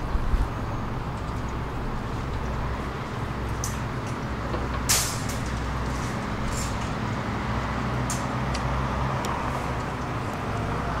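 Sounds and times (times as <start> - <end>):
tram electrical hum: 0.0 - 11.0.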